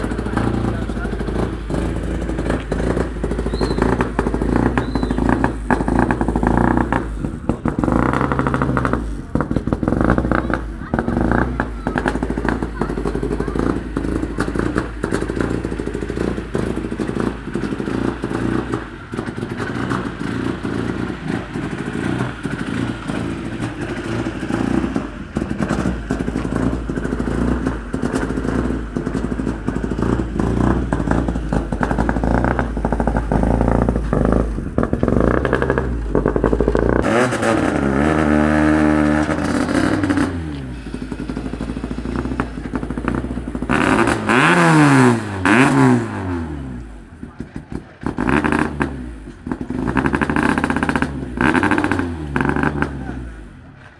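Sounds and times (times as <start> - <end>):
rally car engine idling and revving: 0.0 - 53.9.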